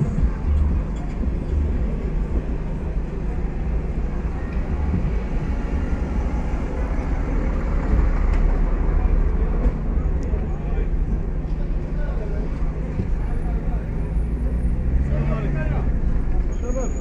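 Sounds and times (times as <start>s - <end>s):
car engines rumbling: 0.0s - 17.0s
street din: 0.0s - 17.0s.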